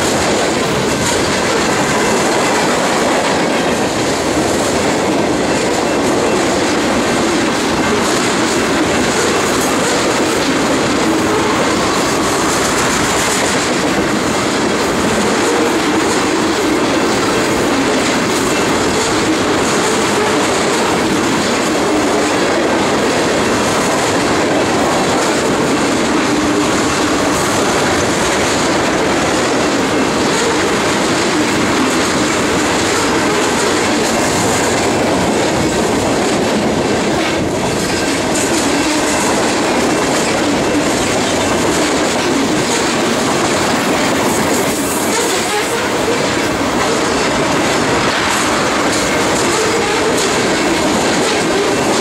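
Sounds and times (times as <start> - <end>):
freight train rolling past: 0.0 - 52.0
steel wheels on rails: 0.0 - 52.0.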